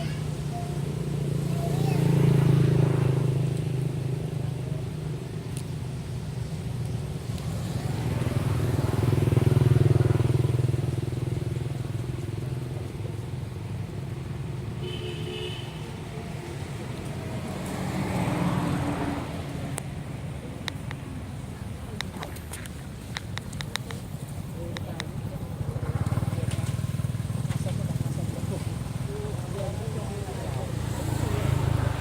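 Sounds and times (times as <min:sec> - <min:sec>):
vehicles passing on road: 0:00.0 - 0:32.0.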